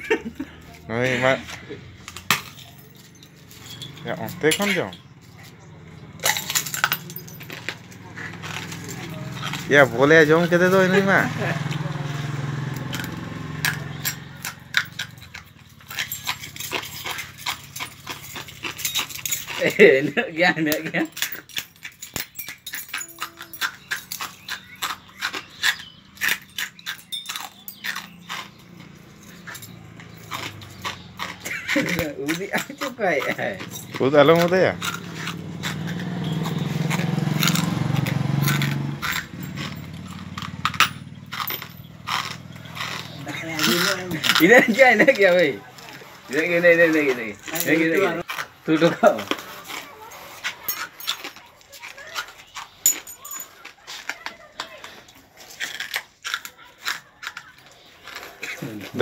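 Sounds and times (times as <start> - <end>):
glass being chewed: 0.4 - 11.0, 12.5 - 59.0.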